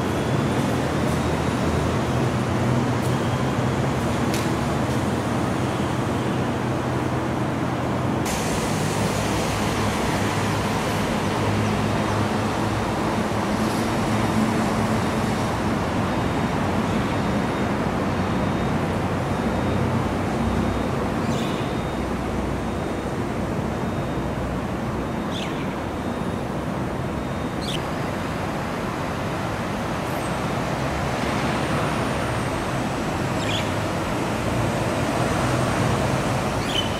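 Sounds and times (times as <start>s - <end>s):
city background rush: 0.0s - 36.9s.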